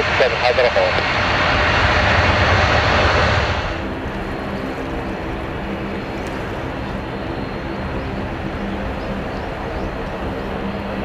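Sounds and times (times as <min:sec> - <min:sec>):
jet engine noise: 0:00.0 - 0:11.0.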